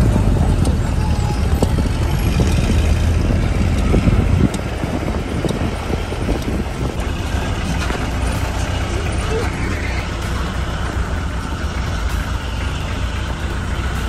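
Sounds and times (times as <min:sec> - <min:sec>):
jeep engine running: 0:00.0 - 0:14.0
wind buffeting microphone: 0:00.0 - 0:14.0.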